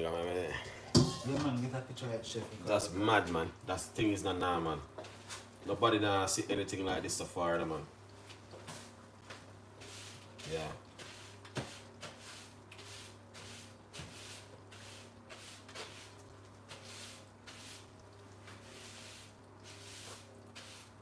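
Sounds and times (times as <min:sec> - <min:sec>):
low steady hum: 0:00.0 - 0:21.0
pot bubbling and hissing: 0:00.0 - 0:21.0.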